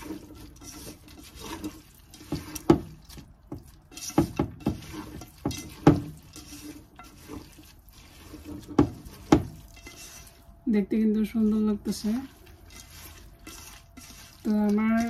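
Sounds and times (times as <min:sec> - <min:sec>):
wet grains squishing by hand: 0:00.0 - 0:10.6, 0:11.8 - 0:15.0.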